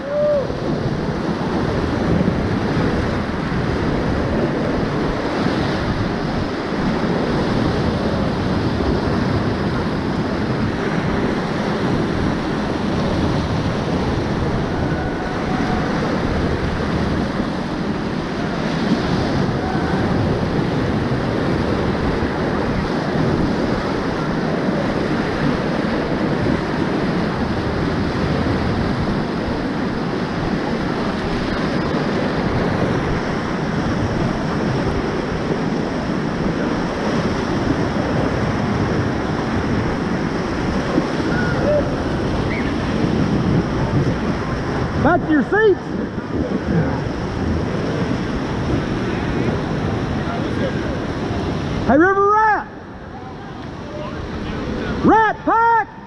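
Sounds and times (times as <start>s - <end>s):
whitewater rapids roaring: 0.0s - 56.0s.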